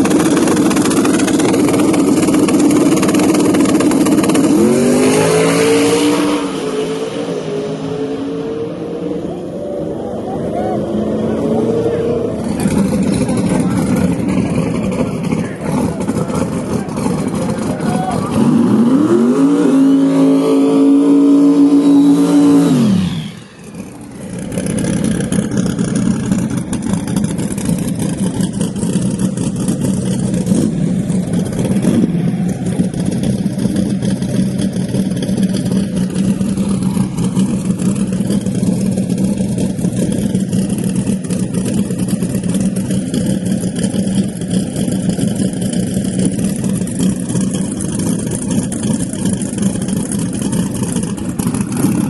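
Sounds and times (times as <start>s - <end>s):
engine idling choppily: 0.0s - 5.9s, 6.5s - 19.4s, 22.7s - 52.0s
drag car engine revving: 0.0s - 52.0s.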